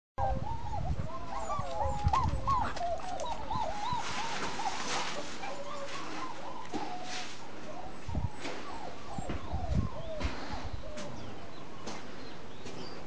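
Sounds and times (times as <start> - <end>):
puppies whining: 0.2 - 11.3.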